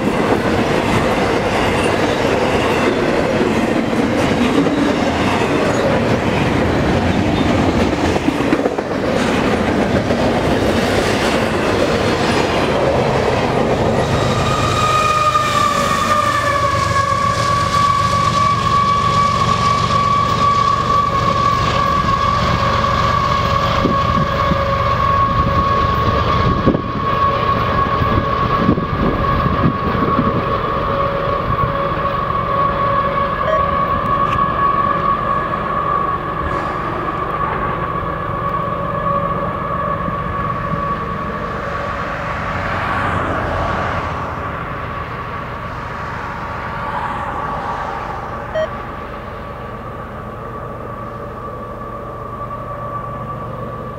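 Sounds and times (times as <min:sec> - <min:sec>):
diesel locomotive passing: 0:00.0 - 0:53.9
train wheels rumbling on rails: 0:00.0 - 0:53.9.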